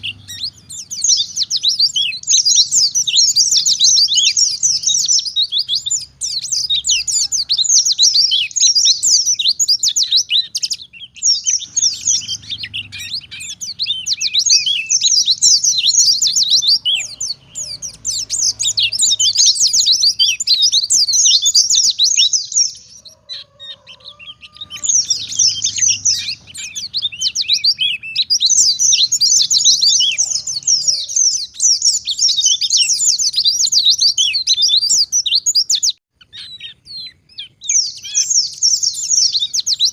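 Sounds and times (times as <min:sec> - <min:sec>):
white-eye bird singing: 0:00.0 - 0:39.9.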